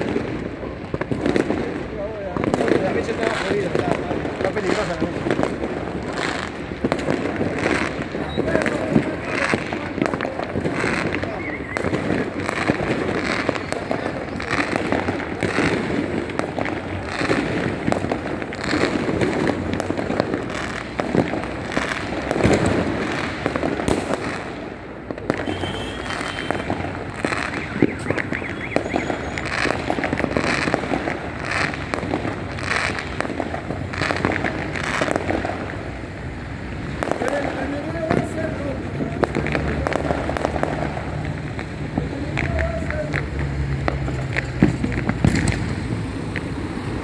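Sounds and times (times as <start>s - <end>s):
fireworks and firecrackers banging: 0.0s - 47.0s.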